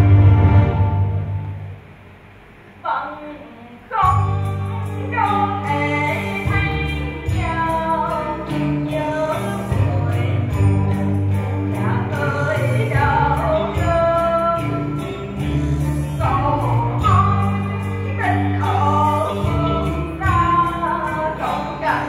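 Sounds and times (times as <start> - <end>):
instrumental accompaniment: 0.0 - 2.5, 4.0 - 22.0
woman singing opera: 2.9 - 10.6, 11.7 - 22.0.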